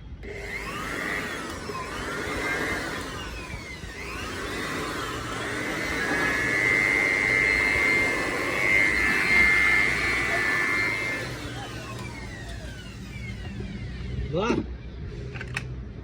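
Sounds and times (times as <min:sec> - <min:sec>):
machine motor whining: 0:00.1 - 0:15.6.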